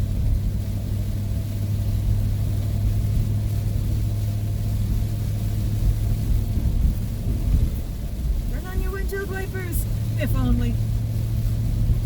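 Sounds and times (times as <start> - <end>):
road noise: 0.0 - 12.0
van engine drone: 0.0 - 12.0.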